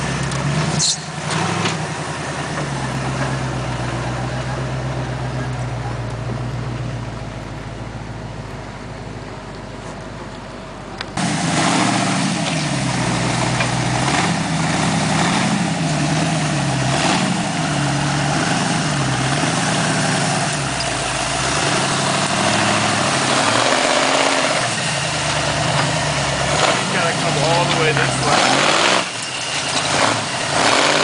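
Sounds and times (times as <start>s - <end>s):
buggy engine revving: 0.0s - 9.6s, 10.6s - 31.0s.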